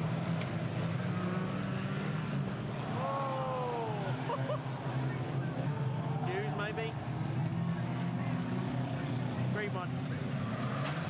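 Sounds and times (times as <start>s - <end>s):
racing car engines droning: 0.0s - 11.0s.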